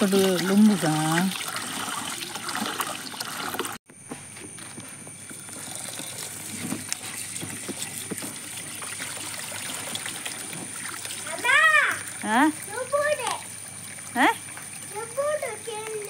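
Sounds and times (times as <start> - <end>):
tap water running into pot: 0.0 - 3.8, 5.1 - 16.0.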